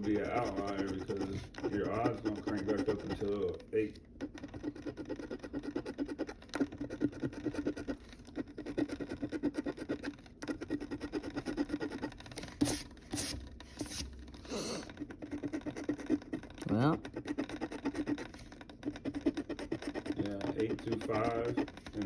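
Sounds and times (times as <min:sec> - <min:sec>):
lottery ticket being scratched: 0:00.0 - 0:03.5, 0:04.2 - 0:22.0.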